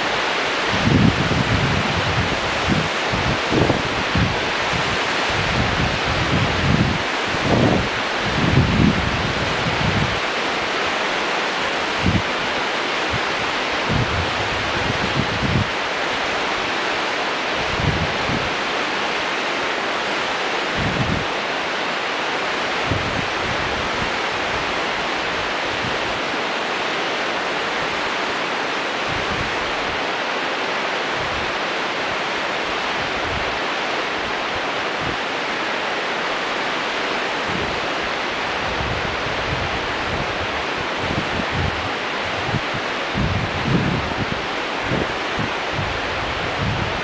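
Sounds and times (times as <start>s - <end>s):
wind buffeting microphone: 0.0s - 16.9s, 17.5s - 19.3s, 20.1s - 21.7s, 22.6s - 30.2s, 31.0s - 47.0s
river rapids rushing: 0.0s - 47.0s.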